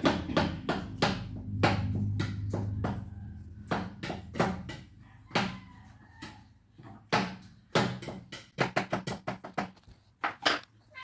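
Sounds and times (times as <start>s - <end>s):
sharp knocks and clacks: 0.0s - 5.6s, 6.2s - 10.7s.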